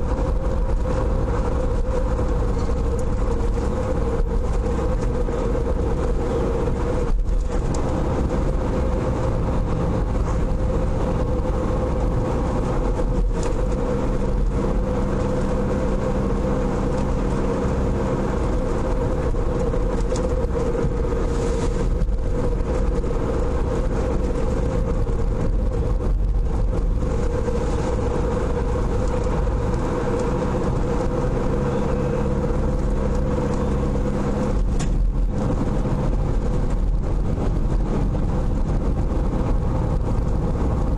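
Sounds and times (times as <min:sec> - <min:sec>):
car engine from inside cabin: 0:00.0 - 0:40.9.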